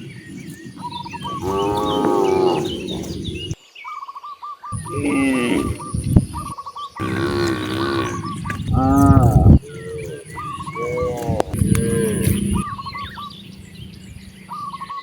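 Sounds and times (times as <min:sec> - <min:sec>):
cows mooing: 0:00.0 - 0:03.6, 0:04.8 - 0:06.4, 0:07.0 - 0:14.9.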